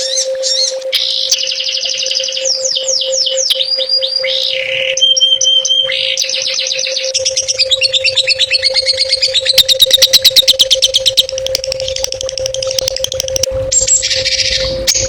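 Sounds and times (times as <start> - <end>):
songbird singing: 0.0 - 15.0
steady low hum: 0.0 - 15.0.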